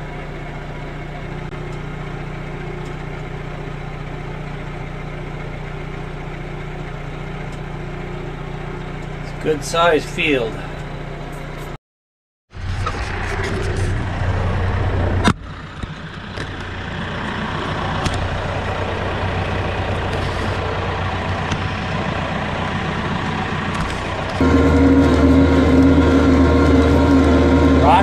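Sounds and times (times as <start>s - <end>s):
tractor diesel engine running: 0.0s - 11.8s, 12.5s - 28.0s.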